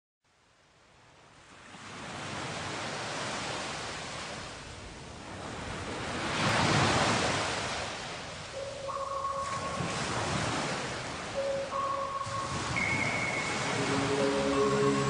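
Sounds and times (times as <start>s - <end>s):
ocean waves washing in: 1.5s - 15.0s.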